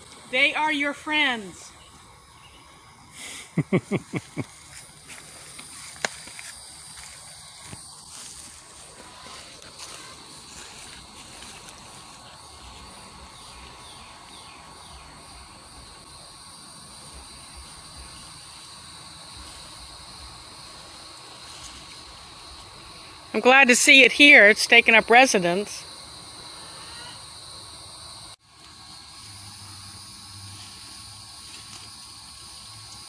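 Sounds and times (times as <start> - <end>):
high-pitched hiss: 0.0 - 33.0.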